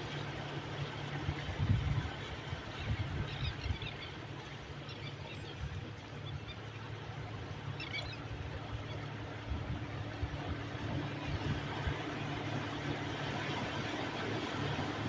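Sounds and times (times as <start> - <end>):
sea wash: 0.0 - 15.0.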